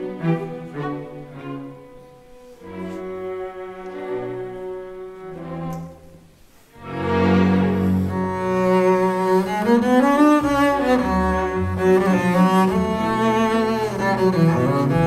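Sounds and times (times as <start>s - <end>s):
string orchestra playing: 0.0s - 15.0s.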